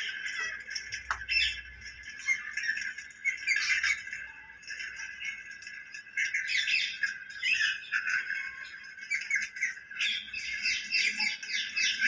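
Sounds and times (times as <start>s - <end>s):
parakeet squawking: 0.0s - 4.0s, 6.2s - 12.0s.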